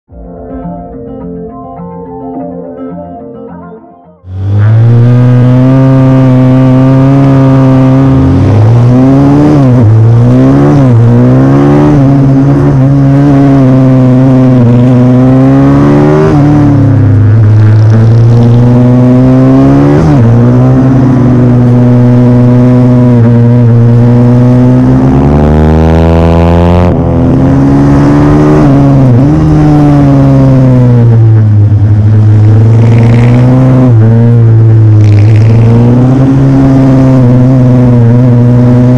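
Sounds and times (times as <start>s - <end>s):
motorbike engine revving: 4.2s - 38.9s.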